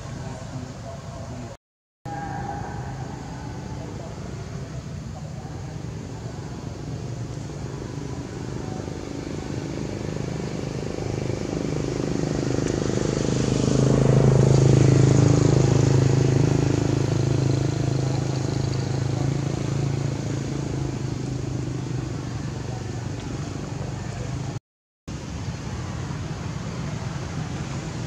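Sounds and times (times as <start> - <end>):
vehicle engine passing by: 0.0 - 24.6.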